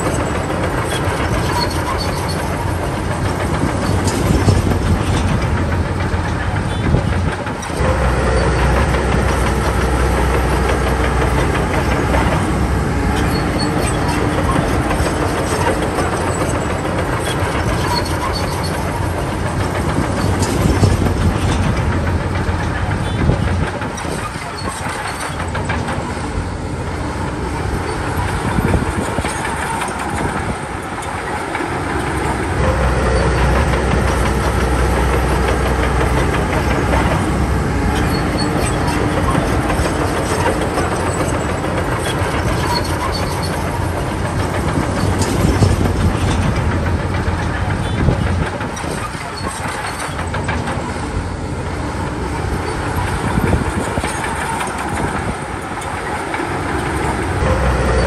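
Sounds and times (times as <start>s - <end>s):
bulldozer diesel engine: 0.0s - 58.0s
crawler tracks clattering: 0.0s - 58.0s.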